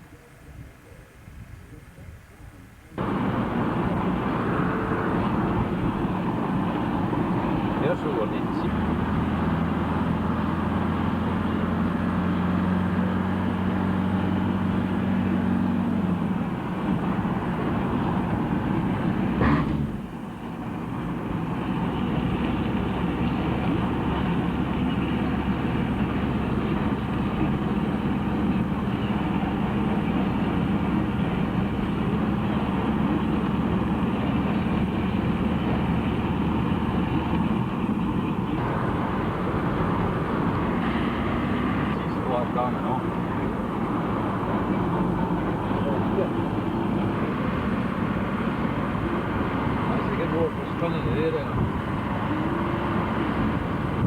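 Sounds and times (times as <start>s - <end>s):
road noise: 3.0s - 54.0s
vehicle engine running: 3.0s - 54.0s.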